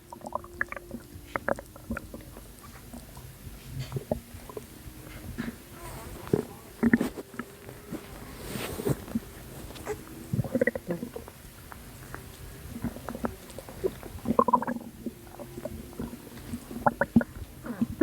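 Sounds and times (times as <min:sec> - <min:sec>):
stomach gurgling: 0:00.0 - 0:18.0.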